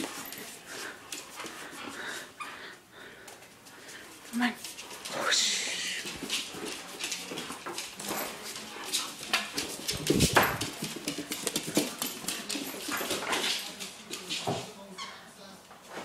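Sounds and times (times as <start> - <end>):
dogs playing tug-of-war: 0.0 - 15.2.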